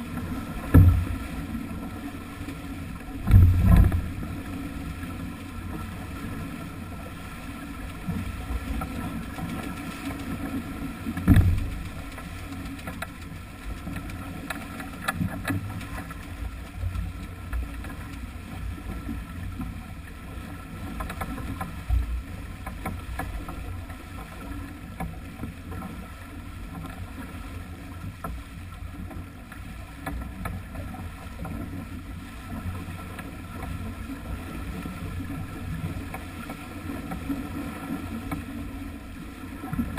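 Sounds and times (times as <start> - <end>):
water rushing along hull: 0.0 - 39.9.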